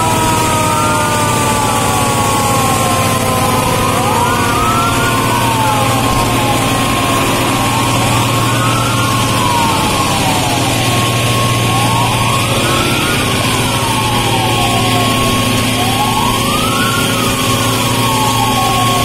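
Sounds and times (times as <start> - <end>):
sirens wailing: 0.0 - 19.0.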